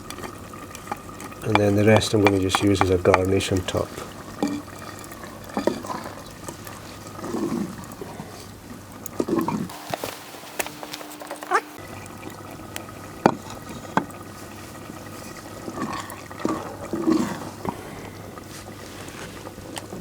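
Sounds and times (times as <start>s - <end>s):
curry simmering and bubbling: 0.0s - 20.0s.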